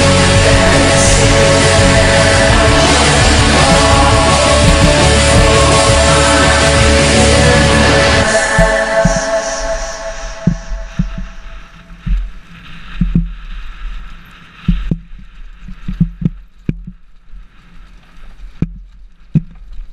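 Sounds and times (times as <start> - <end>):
wind rumble on microphone: 0.0 - 19.9.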